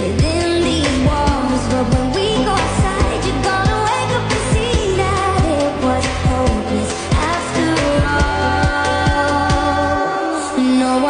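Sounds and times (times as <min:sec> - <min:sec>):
steady drum beat: 0:00.0 - 0:09.9
pop song with singing: 0:00.0 - 0:11.0.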